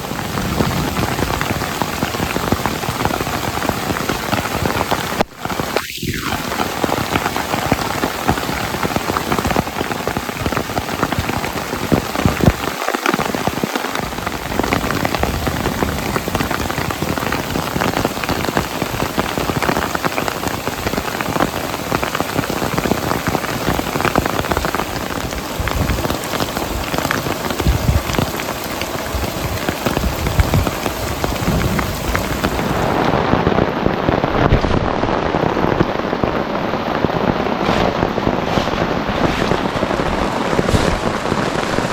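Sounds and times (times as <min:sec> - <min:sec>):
heavy rain beating on a surface: 0:00.0 - 0:41.9.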